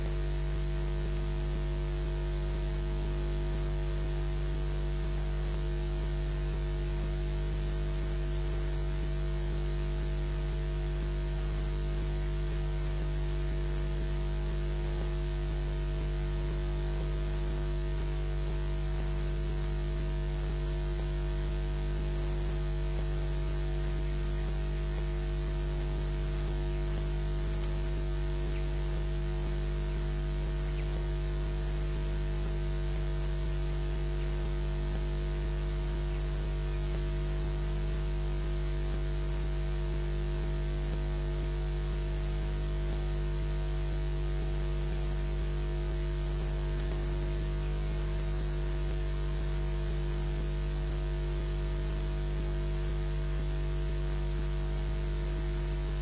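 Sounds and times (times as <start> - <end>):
low electrical hum: 0.0 - 56.0
static hiss: 0.0 - 56.0.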